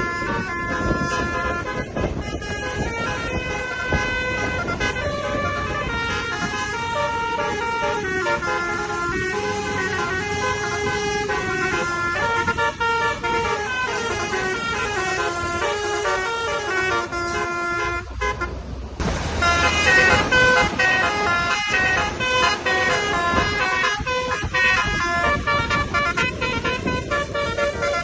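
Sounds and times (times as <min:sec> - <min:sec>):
multi-tone air horn playing a tune: 0:00.0 - 0:18.5, 0:19.4 - 0:28.0.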